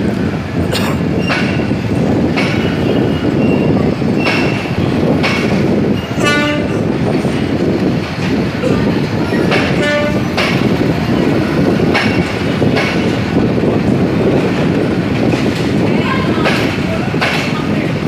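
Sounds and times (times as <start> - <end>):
train wheels clattering over rails: 0.0 - 18.0.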